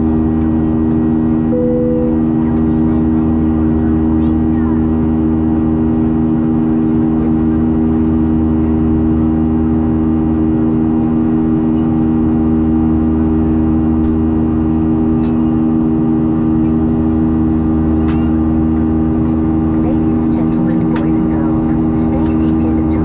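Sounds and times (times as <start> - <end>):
jet engine cabin drone: 0.0 - 23.0.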